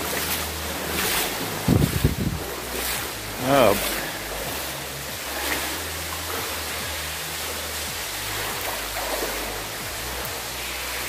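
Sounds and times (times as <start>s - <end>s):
water rushing in tunnel: 0.0s - 11.0s.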